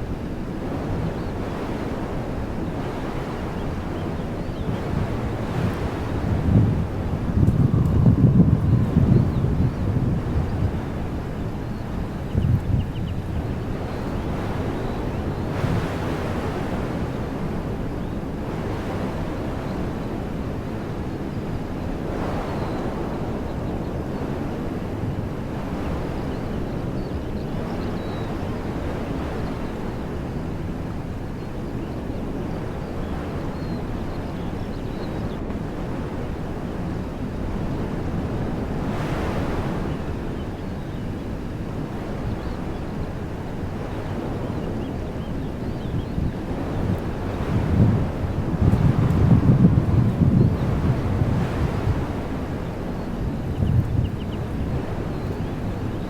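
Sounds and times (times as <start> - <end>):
wind rumble on microphone: 0.0 - 56.0
wind rushing through trees: 0.0 - 56.0.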